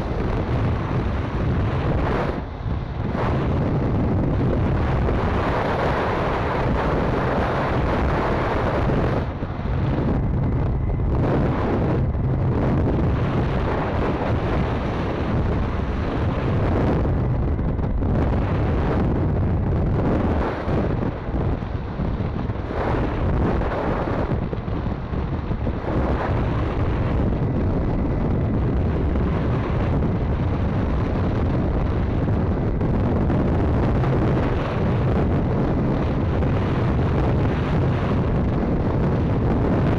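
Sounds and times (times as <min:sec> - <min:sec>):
motorbike engine hum: 0:00.0 - 0:39.9
wind buffeting microphone: 0:00.0 - 0:39.9.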